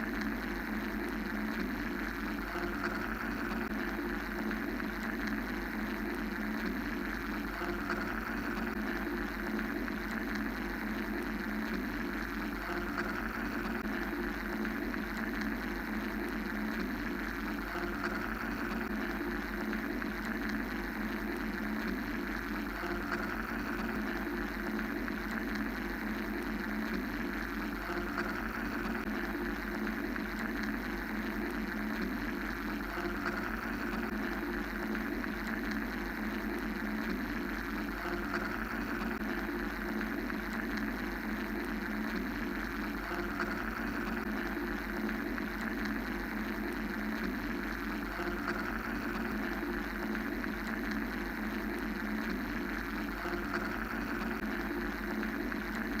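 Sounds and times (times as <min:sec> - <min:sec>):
mechanical white-noise drone: 0:00.0 - 0:56.0.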